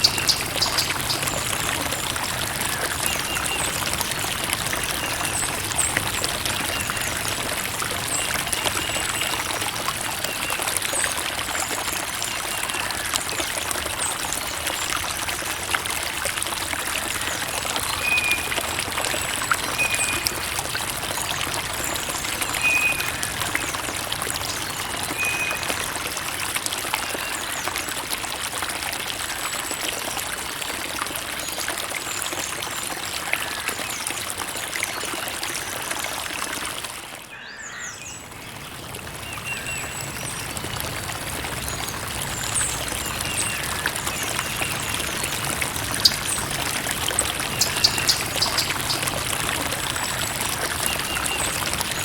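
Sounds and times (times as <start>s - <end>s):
creek water trickling: 0.0s - 52.0s.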